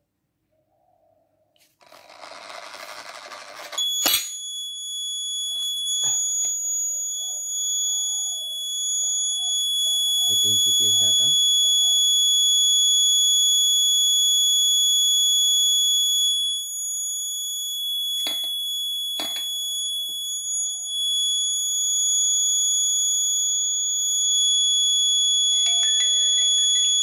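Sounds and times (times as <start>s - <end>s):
high-pitched alarm buzzer tone: 3.8s - 27.0s.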